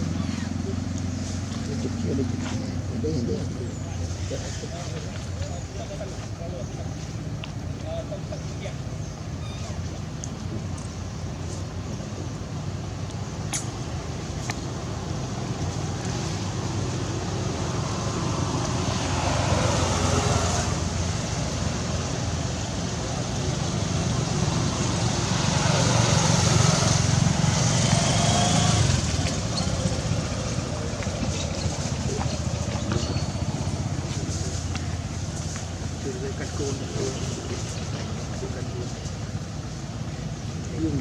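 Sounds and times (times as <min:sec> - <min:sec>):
motor traffic passing: 0:00.0 - 0:41.0.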